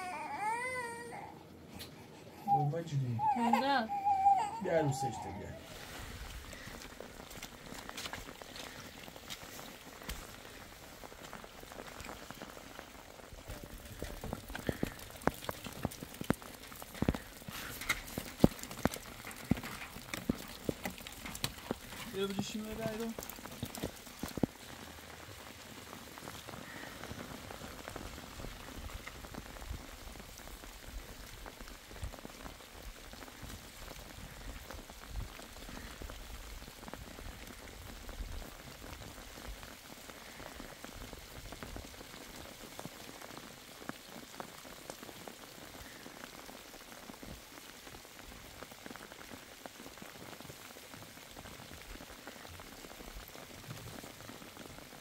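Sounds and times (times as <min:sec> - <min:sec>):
rain falling on ground: 0:00.0 - 0:55.0.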